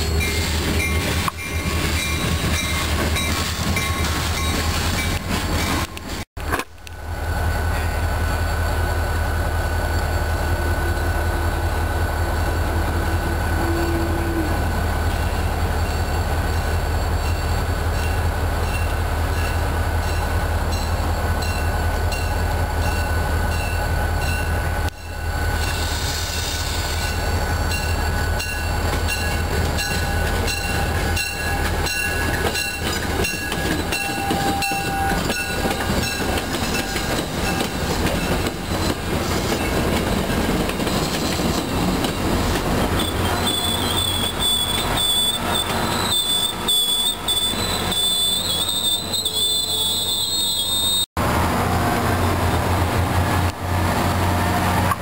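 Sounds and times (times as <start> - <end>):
train rumbling past: 0.0 - 55.0.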